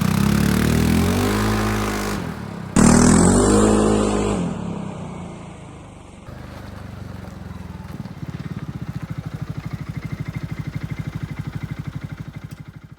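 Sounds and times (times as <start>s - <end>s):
atv engine idling: 0.0s - 3.3s, 4.6s - 12.9s.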